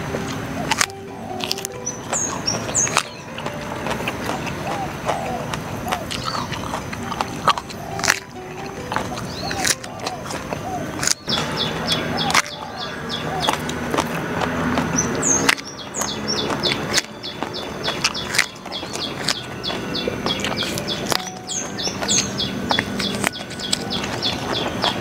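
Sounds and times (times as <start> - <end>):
bird chirping high: 0.0 - 25.0
crunching raw vegetables: 0.0 - 25.0.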